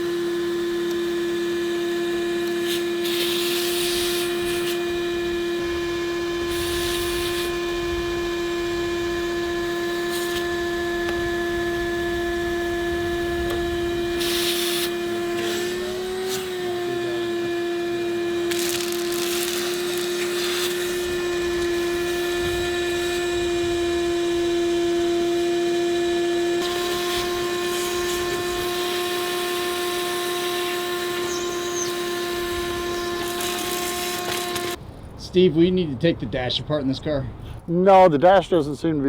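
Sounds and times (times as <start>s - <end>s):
machine humming: 0.0s - 35.3s.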